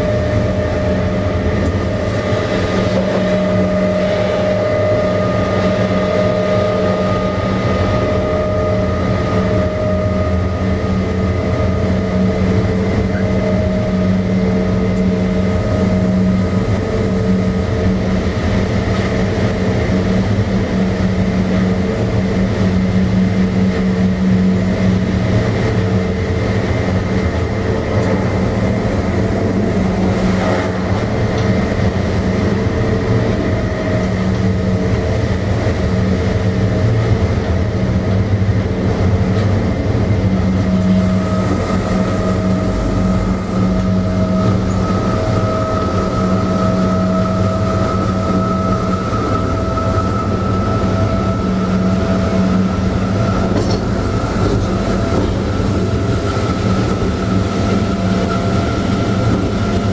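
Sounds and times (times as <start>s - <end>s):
multi-toned electric drive hum: 0.0s - 59.9s
train wheels rumbling on rails: 0.0s - 59.9s.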